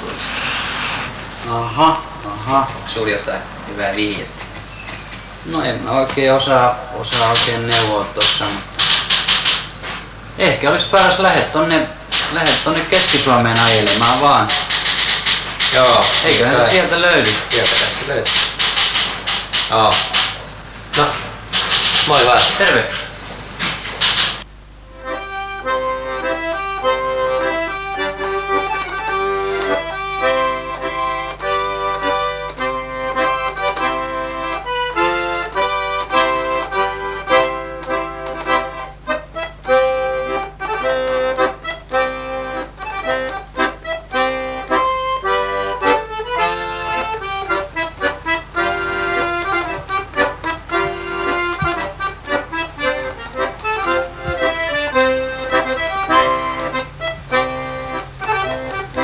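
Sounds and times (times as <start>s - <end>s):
lively accordion tune: 0.0s - 4.6s, 5.3s - 59.0s.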